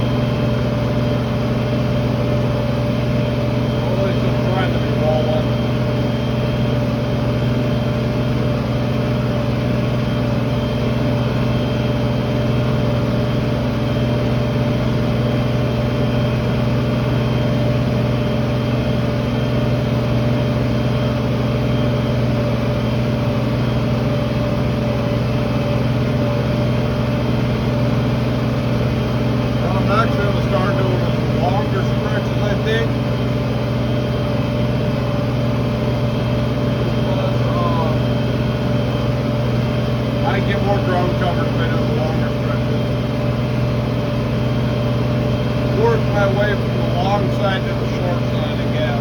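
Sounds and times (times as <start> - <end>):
tractor engine droning under load: 0.0 - 49.0.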